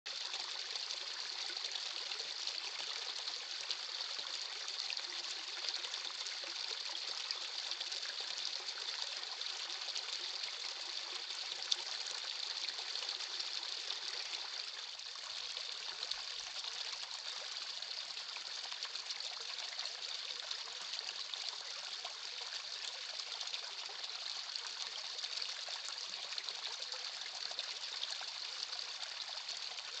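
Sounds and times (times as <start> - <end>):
creek trickling over stones: 0.1 - 30.0.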